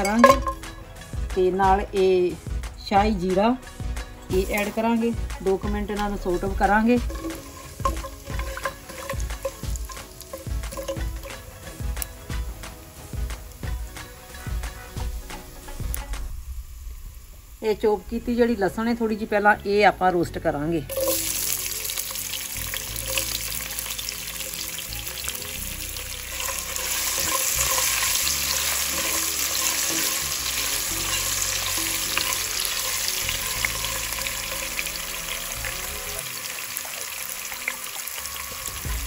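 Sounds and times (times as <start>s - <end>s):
garlic sizzling in hot oil: 0.0s - 39.0s.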